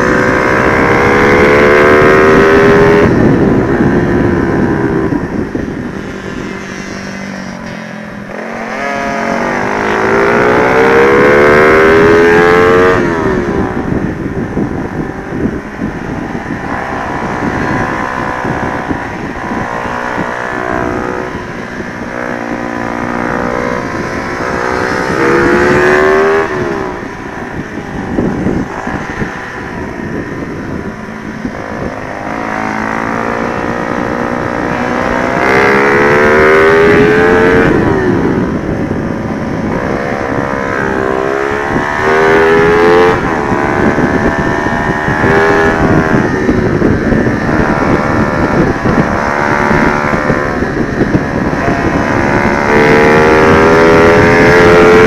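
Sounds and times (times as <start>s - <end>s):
motorcycle engine revving: 0.0s - 55.0s
wind buffeting microphone: 0.0s - 55.0s.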